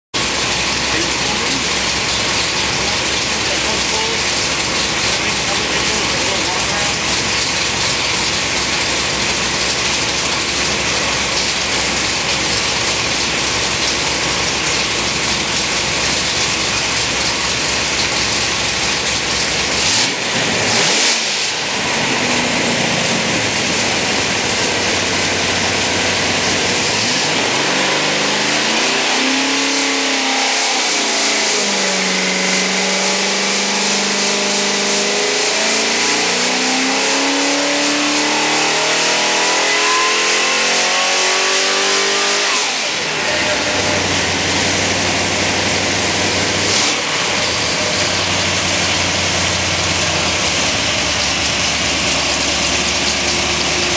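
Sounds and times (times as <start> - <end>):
engine revving at high rpm: 0.1 - 53.9.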